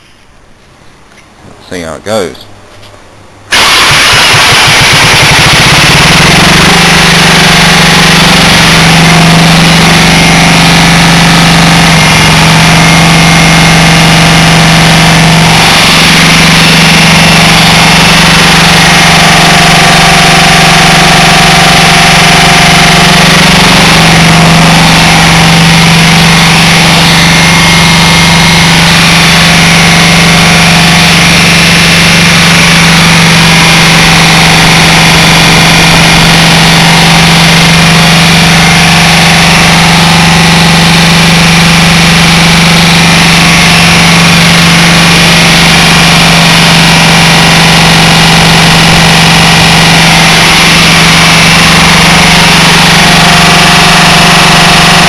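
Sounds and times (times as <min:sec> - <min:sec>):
diesel generator engine running: 0:00.0 - 0:55.0.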